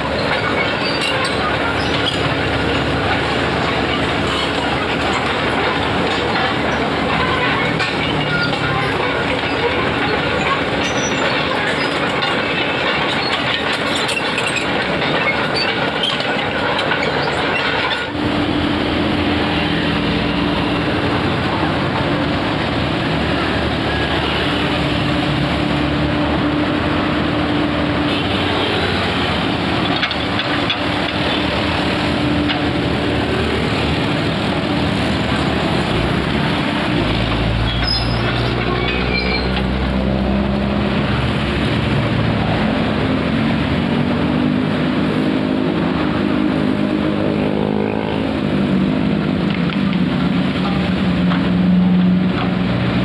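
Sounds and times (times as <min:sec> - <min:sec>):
excavator engine running: 0:00.0 - 0:53.0.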